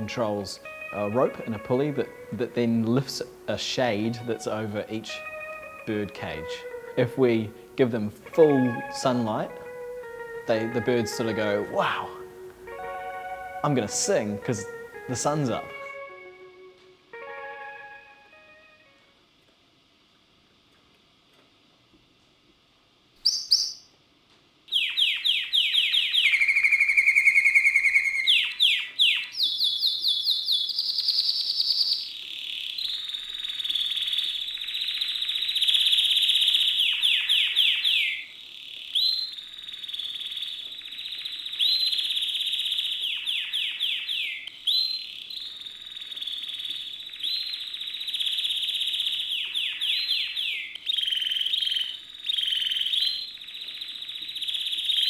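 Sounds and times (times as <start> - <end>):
songbirds singing: 0.0 - 16.3, 23.2 - 23.9, 24.7 - 55.0.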